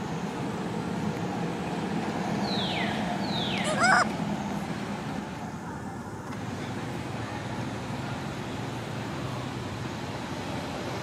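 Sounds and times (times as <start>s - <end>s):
distant traffic hum: 0.0s - 11.0s.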